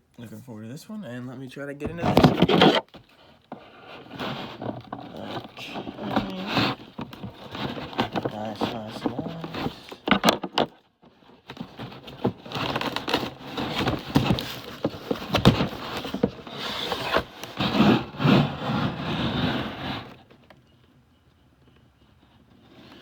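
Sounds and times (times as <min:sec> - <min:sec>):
cardboard scraping and rubbing: 0:01.8 - 0:20.5.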